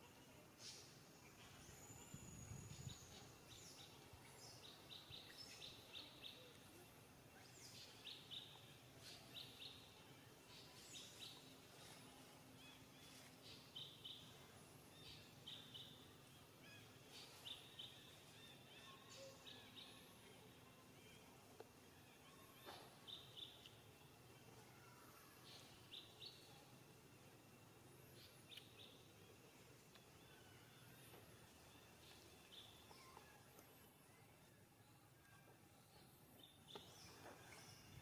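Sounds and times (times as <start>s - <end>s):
faint bird chirping: 0.0s - 38.0s.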